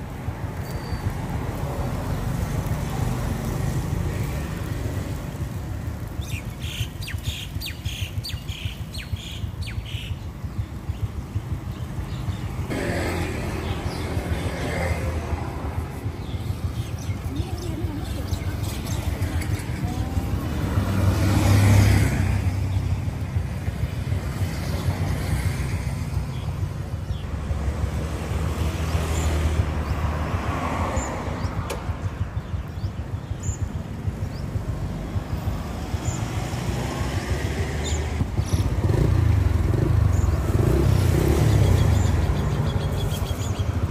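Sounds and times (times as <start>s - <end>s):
vehicle passing: 0.0s - 32.6s, 33.9s - 43.9s
traffic engine hum: 0.0s - 43.9s.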